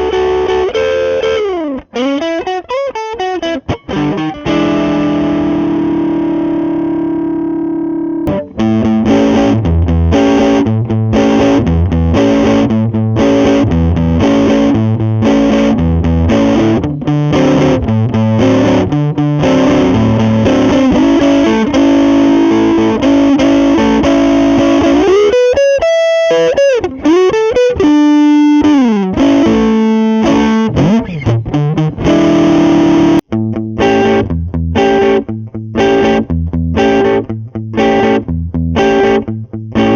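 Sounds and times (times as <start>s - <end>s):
overdriven electric guitar chords: 0.0s - 39.9s.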